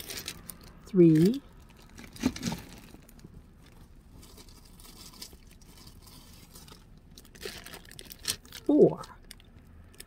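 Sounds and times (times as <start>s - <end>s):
plastic bags rustling: 0.0s - 9.5s.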